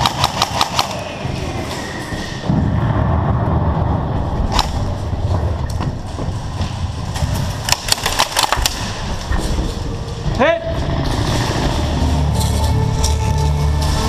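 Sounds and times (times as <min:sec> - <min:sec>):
low rumble: 0:00.9 - 0:14.0.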